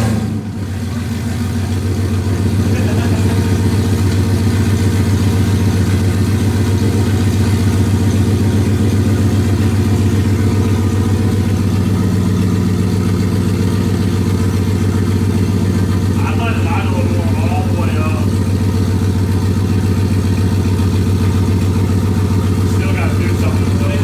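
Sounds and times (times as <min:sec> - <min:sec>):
car engine running steadily: 0:00.0 - 0:24.0.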